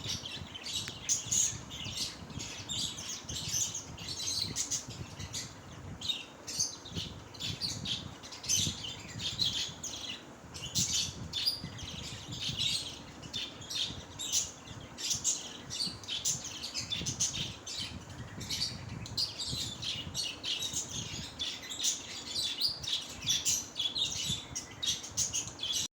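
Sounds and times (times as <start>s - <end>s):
parrots chirping and chattering: 0.0s - 25.9s.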